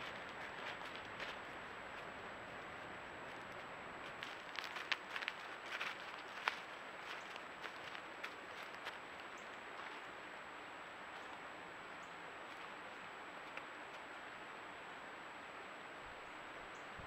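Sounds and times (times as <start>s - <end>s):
deer rustling in dry leaves: 0.0s - 14.1s
low steady hiss: 0.0s - 17.0s.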